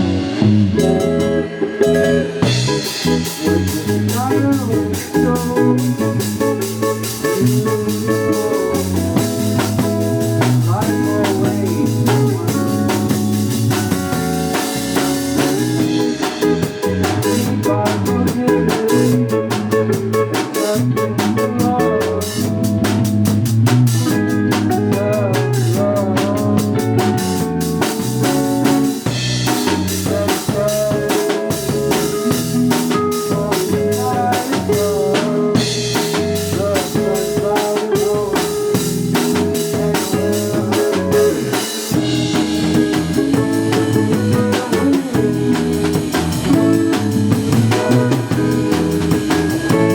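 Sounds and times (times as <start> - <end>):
bass guitar: 0.0 - 49.9
drum kit with rimshots: 0.0 - 49.9
electric guitar: 0.0 - 49.9.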